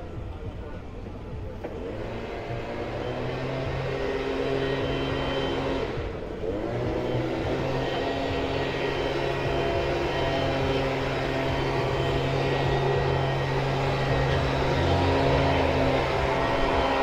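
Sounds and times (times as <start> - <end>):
engine droning hum: 0.0 - 17.0.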